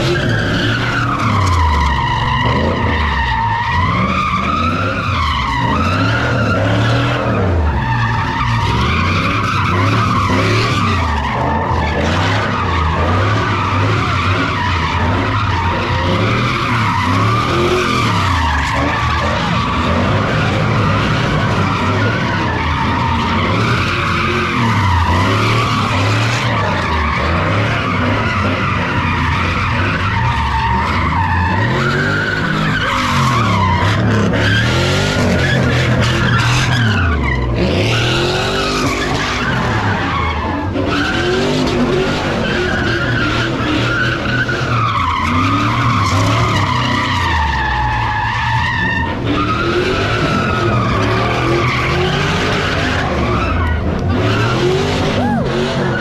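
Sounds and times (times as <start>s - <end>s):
car engine revving: 0.0s - 56.0s
tyres squealing: 0.0s - 56.0s.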